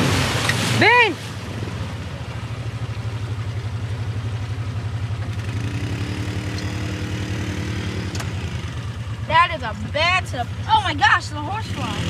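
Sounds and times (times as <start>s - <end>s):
off-road vehicle engine idling: 0.0s - 12.0s.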